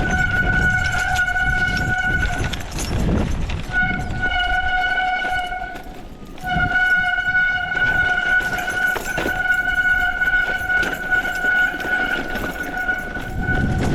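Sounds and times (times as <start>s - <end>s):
bike brake squealing: 0.0s - 3.0s, 3.7s - 13.9s
trail rumble: 0.0s - 13.9s
wind: 0.0s - 13.9s.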